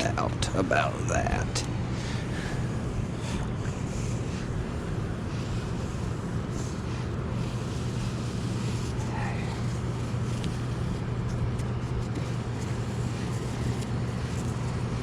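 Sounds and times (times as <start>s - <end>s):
small motor humming: 1.6s - 15.0s.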